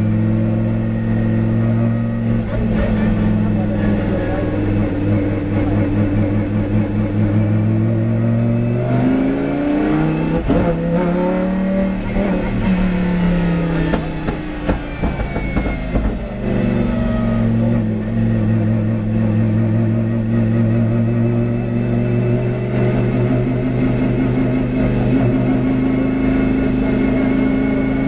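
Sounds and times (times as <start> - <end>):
race car engine running hard: 0.0 - 28.0.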